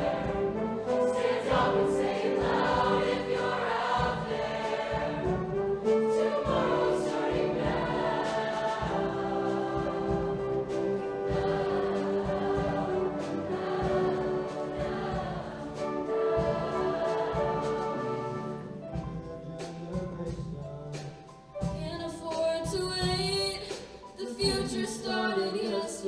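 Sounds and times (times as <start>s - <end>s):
choir singing held chords: 0.0s - 21.0s
instrumental accompaniment: 0.0s - 25.8s.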